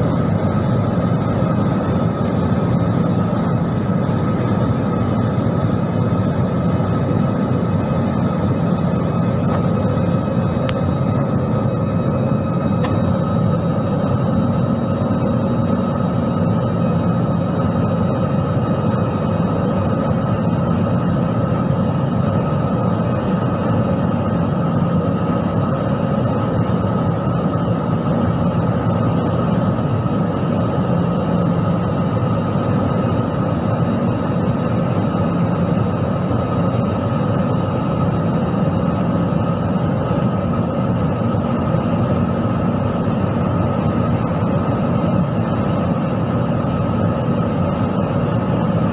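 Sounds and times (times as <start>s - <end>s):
jet cabin engine rush: 0.0s - 48.9s.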